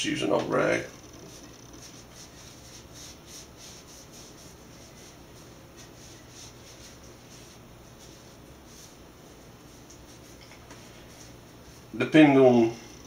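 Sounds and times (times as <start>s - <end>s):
cloth rag rubbing metal: 0.1s - 12.6s.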